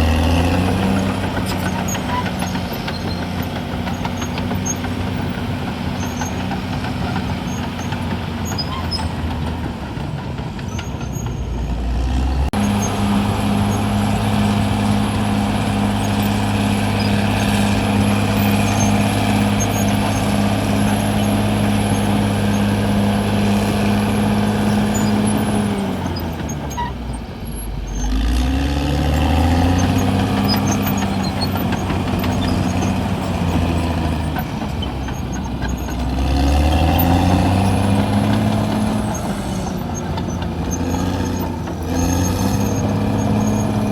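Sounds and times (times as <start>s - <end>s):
bulldozer diesel engine revving: 0.0s - 43.9s.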